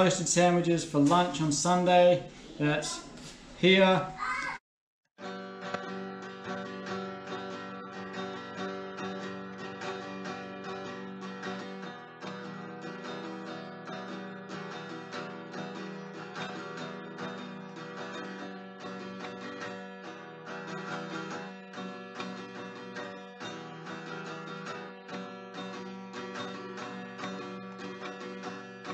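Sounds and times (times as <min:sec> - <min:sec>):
acoustic guitar strumming: 0:00.0 - 0:02.1, 0:05.2 - 0:28.9.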